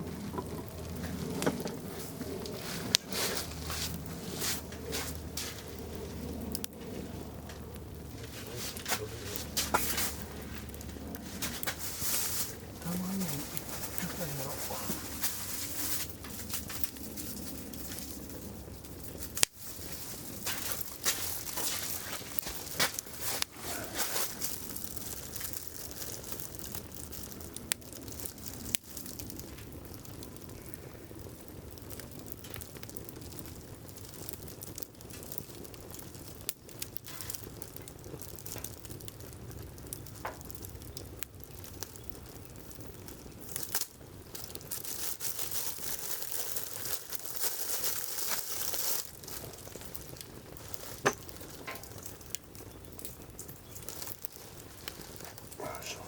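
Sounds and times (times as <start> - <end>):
campfire crackling and hissing: 0.0 - 56.0
sharp pops of burning wood: 0.0 - 56.0.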